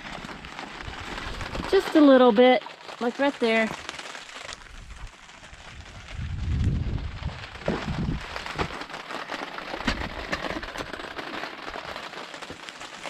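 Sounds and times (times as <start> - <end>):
rain patter: 0.0 - 13.0.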